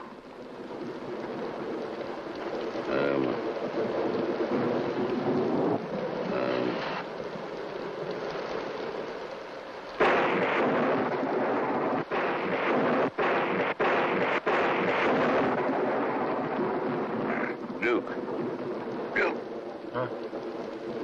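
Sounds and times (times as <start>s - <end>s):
stormy wind blowing: 0.0s - 21.0s.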